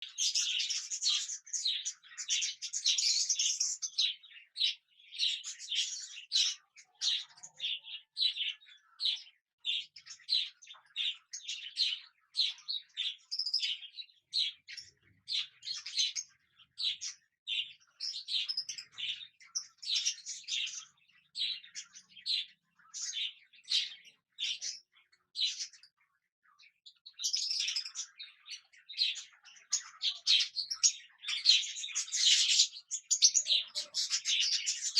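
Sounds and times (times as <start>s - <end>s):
cockatiels chirping: 0.0s - 34.9s.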